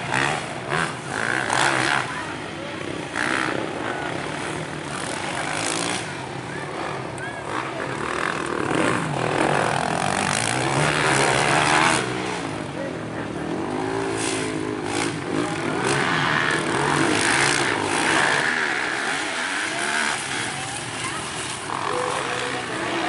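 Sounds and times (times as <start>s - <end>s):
motocross bike engines revving: 0.0s - 23.0s.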